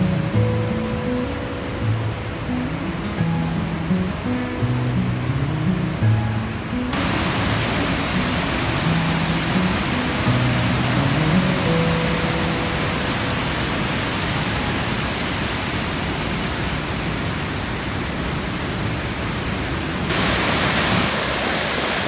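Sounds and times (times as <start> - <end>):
whitewater rushing over falls: 0.0 - 22.0.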